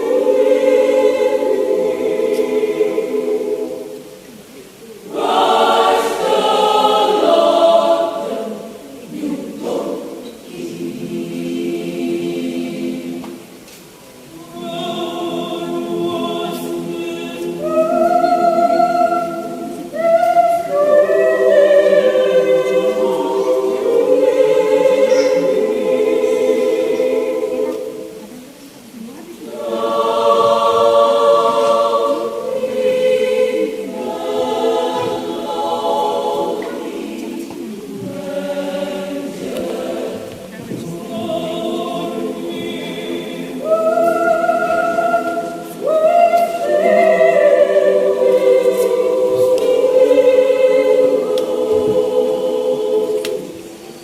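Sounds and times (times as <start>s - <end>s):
choir singing a cappella: 0.0s - 54.0s.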